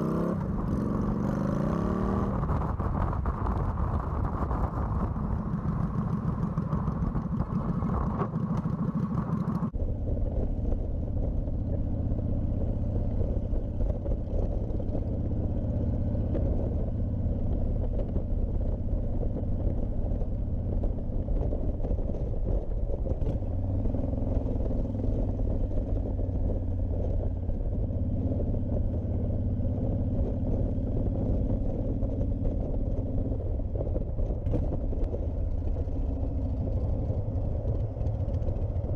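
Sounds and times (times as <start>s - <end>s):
motorcycle engine running: 0.0s - 38.9s
road rumble: 0.0s - 38.9s.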